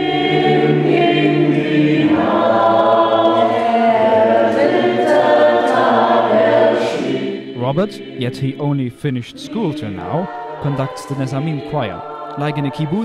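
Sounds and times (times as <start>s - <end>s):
mixed choir singing chords: 0.0s - 13.0s.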